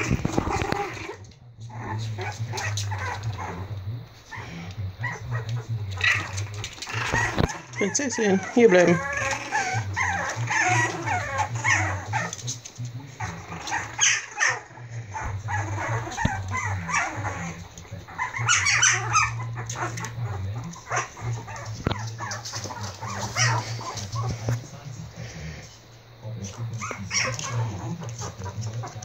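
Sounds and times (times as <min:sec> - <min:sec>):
puppies yipping and barking: 0:00.0 - 0:24.7, 0:26.5 - 0:29.0.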